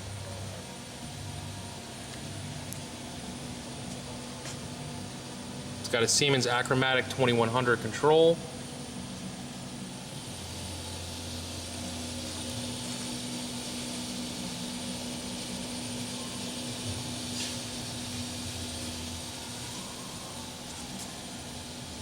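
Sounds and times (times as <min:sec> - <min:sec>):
fan-like noise: 0:00.0 - 0:22.0
machining center humming: 0:00.0 - 0:22.0.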